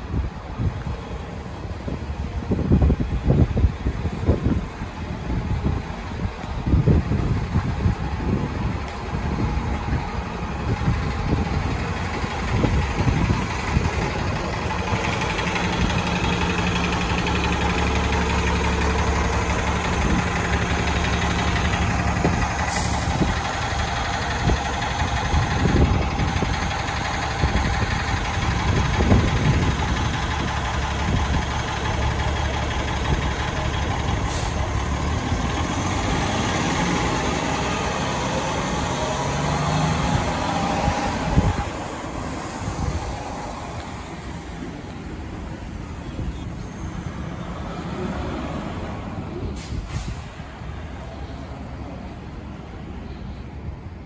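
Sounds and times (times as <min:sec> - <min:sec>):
bus engine humming: 0:00.0 - 0:54.0.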